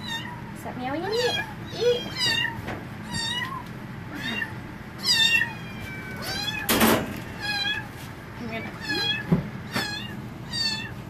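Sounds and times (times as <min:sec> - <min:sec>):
kittens meowing: 0:00.0 - 0:11.0.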